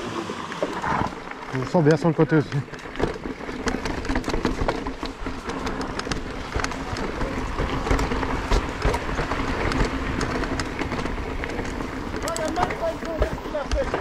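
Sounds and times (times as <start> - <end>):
tyres rumbling on rough trail: 0.0 - 14.0
bike clicking and rattling: 0.6 - 14.0.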